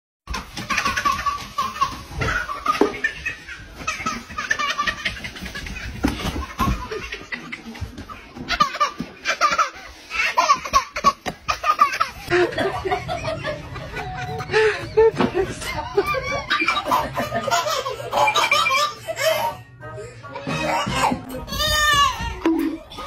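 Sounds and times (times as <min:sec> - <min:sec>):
toddler laughing: 0:00.3 - 0:19.6.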